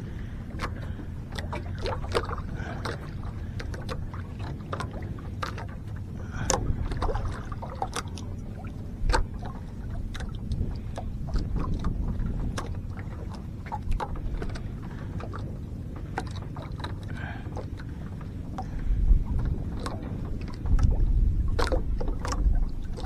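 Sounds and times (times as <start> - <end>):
boat engine low rumble: 0.0 - 23.0.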